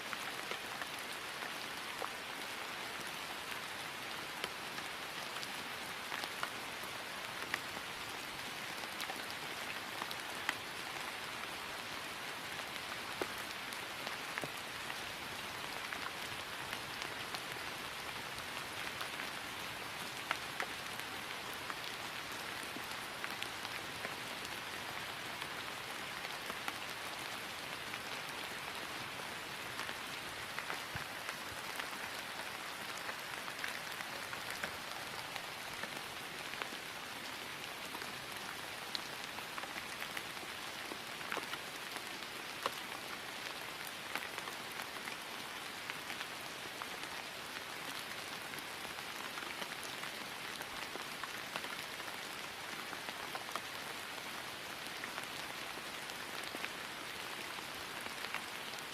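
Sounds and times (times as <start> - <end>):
rain falling on grass: 0.0 - 58.9.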